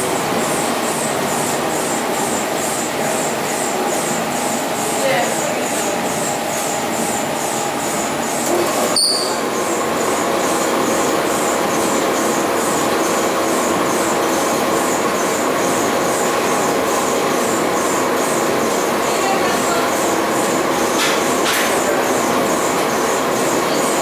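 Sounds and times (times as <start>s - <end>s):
washing machine rumbling: 0.0s - 24.0s.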